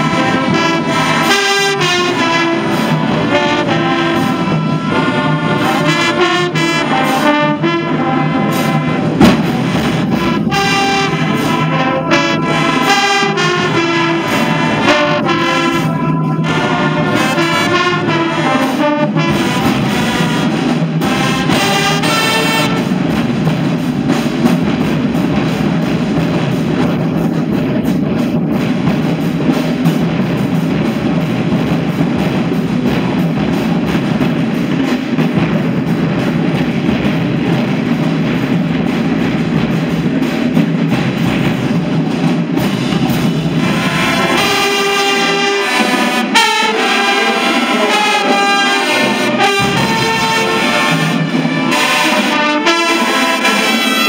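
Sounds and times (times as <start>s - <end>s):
marching band brass playing: 0.0s - 54.0s.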